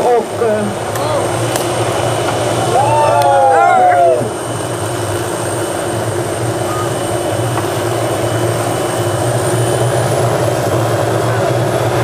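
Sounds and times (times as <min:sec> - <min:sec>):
helicopter engine and rotor: 0:00.0 - 0:12.0
high turbine whine: 0:00.0 - 0:12.0.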